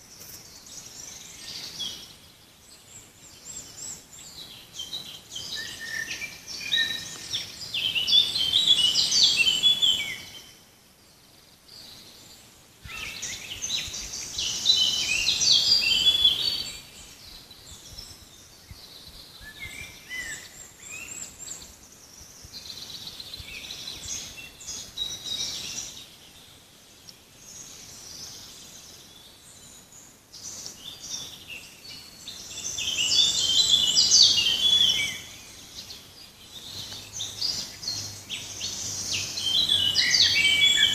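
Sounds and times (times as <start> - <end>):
faint bird chirps: 0.0 - 40.9
songbirds twittering: 0.0 - 40.9.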